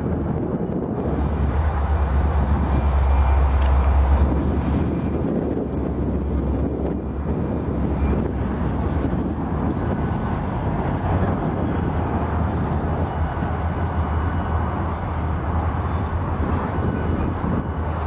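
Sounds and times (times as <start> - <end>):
diesel locomotive engine running: 0.0 - 18.0
wind noise on microphone: 0.0 - 18.0.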